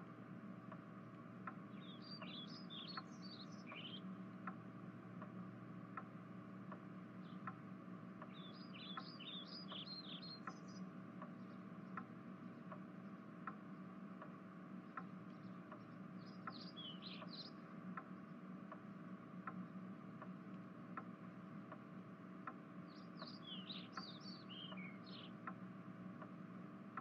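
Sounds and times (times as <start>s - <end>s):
steady low hum: 0.0s - 27.0s
soft repeating tick: 0.1s - 27.0s
small birds chirping: 0.7s - 4.6s, 6.7s - 26.4s.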